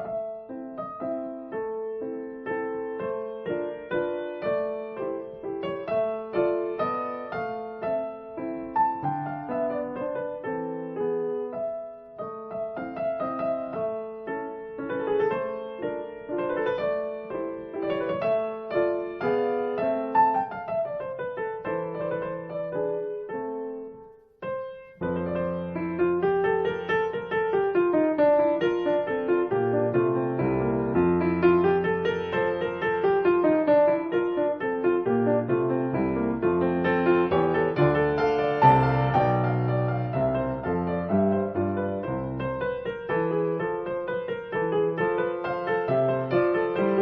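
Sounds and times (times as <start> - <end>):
piano music: 0.0 - 47.0.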